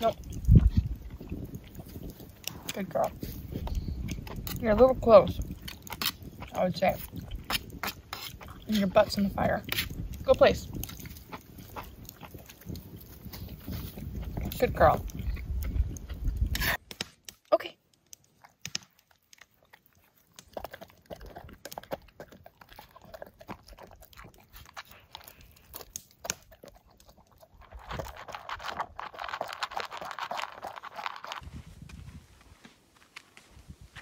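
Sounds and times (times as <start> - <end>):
dog chewing crunches: 0.0 - 31.7.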